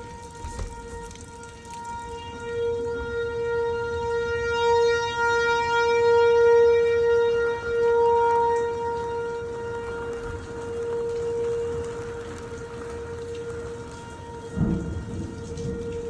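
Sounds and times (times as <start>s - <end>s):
warning siren steady pitch: 0.0s - 16.0s.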